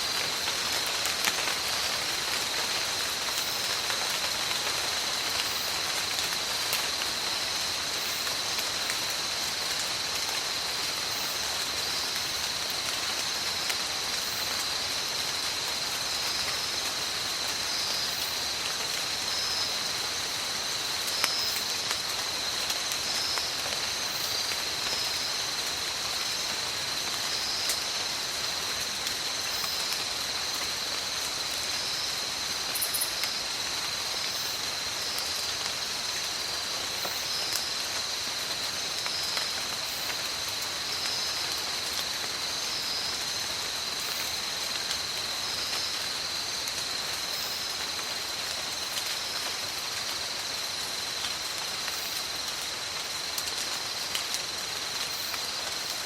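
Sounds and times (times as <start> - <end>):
heavy rain patter: 0.0 - 56.0.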